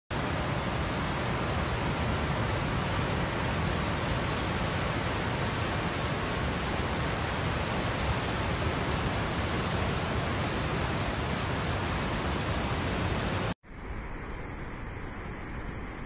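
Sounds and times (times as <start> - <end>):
river in flood rushing: 0.1 - 13.6.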